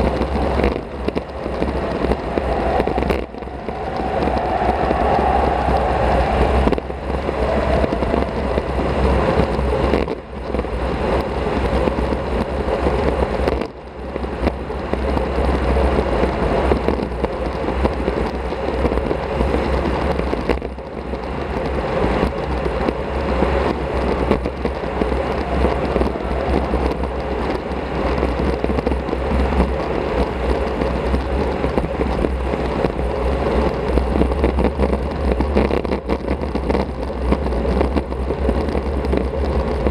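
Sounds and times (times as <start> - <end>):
bicycle road noise: 0.0 - 39.9
wind noise on microphone: 0.0 - 39.9.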